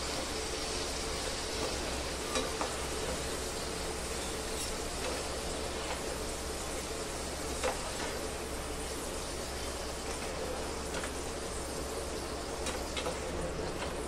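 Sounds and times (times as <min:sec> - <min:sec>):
fries sizzling in oil: 0:00.0 - 0:14.0.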